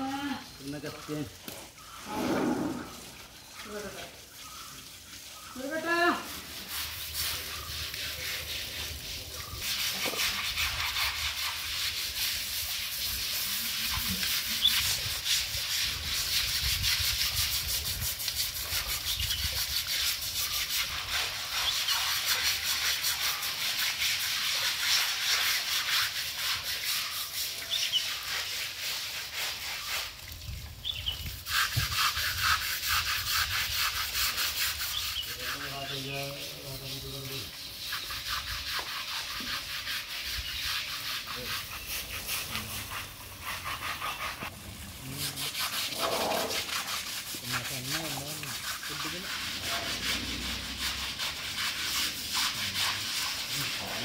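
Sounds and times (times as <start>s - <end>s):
brush scrubbing wet hide: 0.0s - 54.0s.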